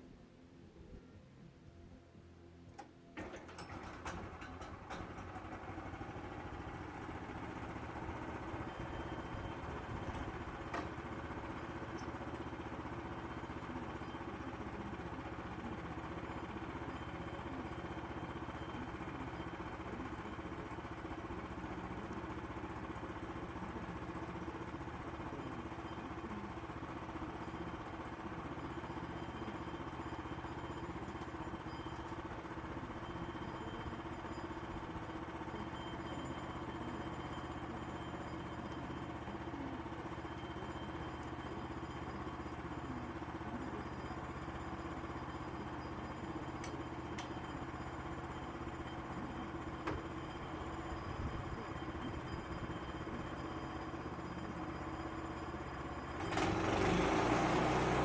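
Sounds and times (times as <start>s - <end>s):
sawmill engine running: 2.7s - 58.0s.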